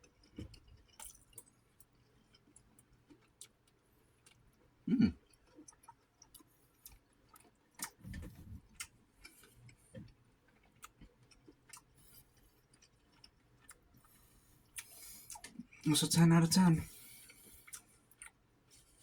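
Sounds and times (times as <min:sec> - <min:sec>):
mouth chewing food: 0:00.0 - 0:19.0.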